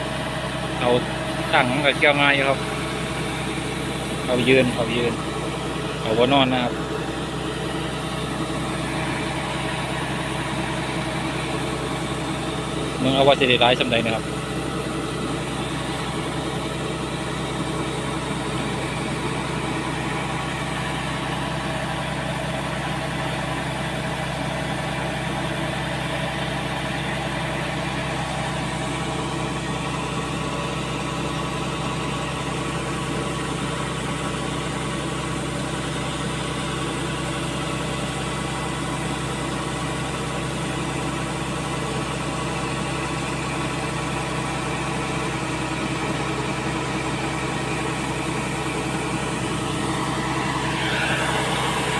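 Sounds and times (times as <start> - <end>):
diesel engine running: 0.0 - 51.9
grain auger running: 0.0 - 51.9.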